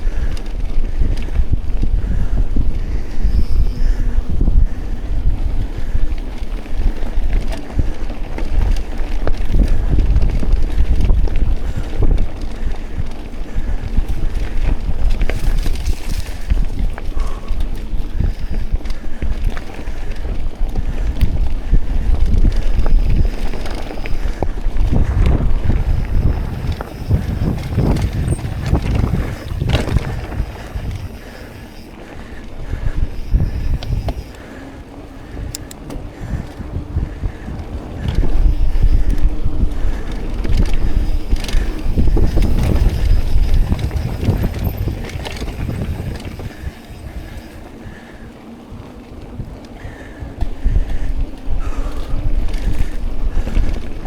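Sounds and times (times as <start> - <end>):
bike tyre noise on dirt: 0.0 - 54.0
wind buffeting microphone: 0.0 - 54.0
bike clattering over bumps: 3.9 - 54.0.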